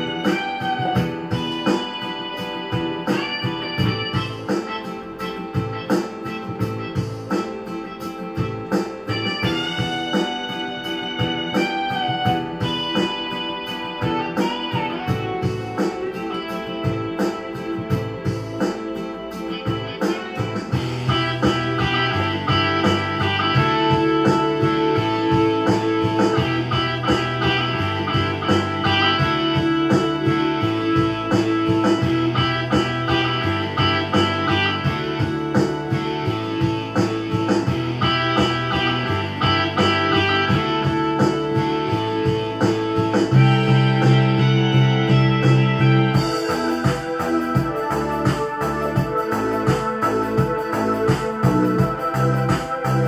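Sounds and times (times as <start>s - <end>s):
digital piano rock melody: 0.0s - 53.0s
steady drum beat: 0.0s - 53.0s
stepping bass line: 0.0s - 53.0s.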